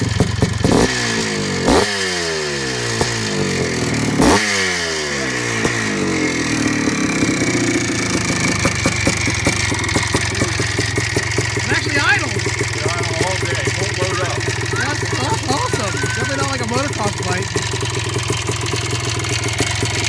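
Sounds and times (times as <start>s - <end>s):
motorcycle engine idling: 0.0s - 20.0s
motorcycle engine revving: 0.0s - 20.0s.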